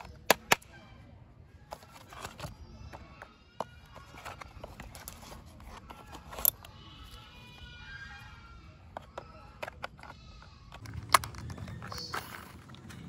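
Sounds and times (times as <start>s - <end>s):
plastic toy parts clicking: 0.0s - 0.7s, 1.7s - 7.8s, 8.9s - 13.0s.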